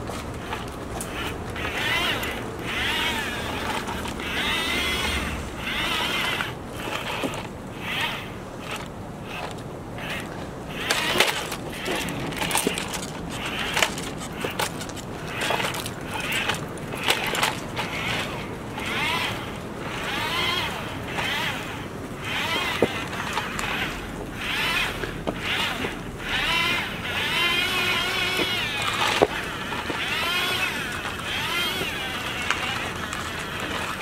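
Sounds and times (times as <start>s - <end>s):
small electric motors whining: 0.0s - 34.0s.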